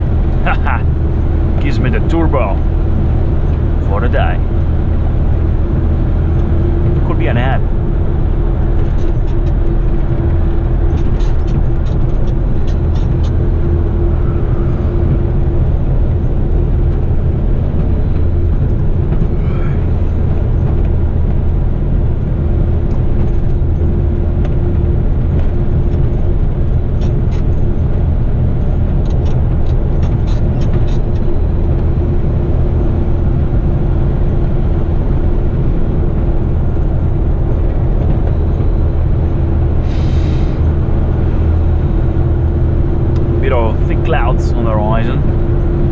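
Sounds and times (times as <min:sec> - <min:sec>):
road noise: 0:00.0 - 0:45.9
truck diesel engine drone: 0:00.0 - 0:45.9.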